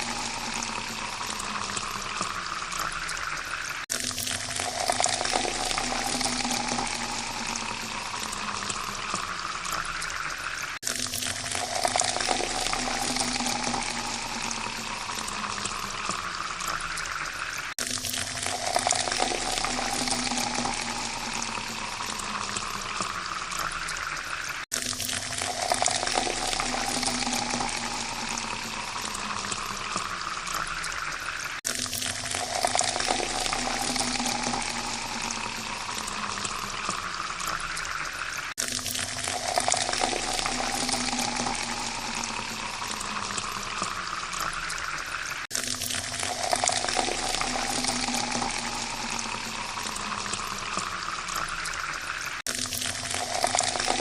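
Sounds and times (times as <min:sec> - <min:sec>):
water pouring into a glass: 0:00.0 - 0:54.0.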